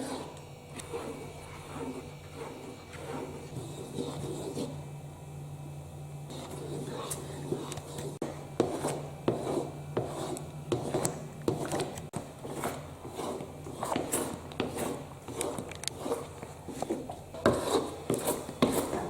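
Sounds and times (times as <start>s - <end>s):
spatula scraping a pan: 0.0s - 4.8s, 6.3s - 19.0s
low steady hum: 0.0s - 19.0s.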